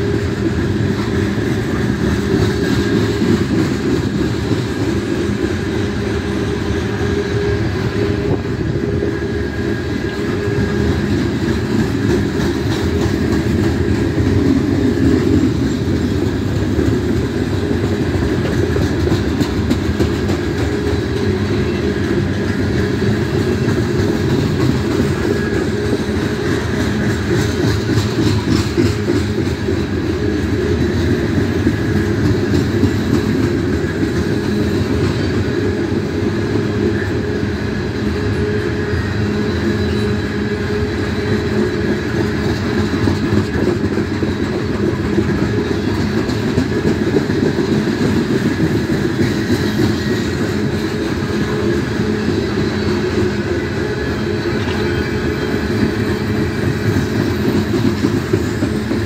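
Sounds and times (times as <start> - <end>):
clickety-clack over rail joints: 0.0 - 59.0
freight train wheels rumbling on rails: 0.0 - 59.0.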